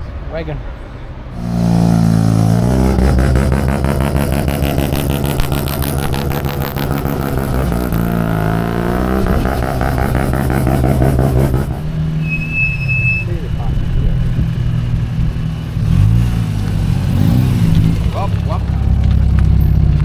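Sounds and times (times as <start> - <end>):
car exhaust revving: 1.4 - 20.0.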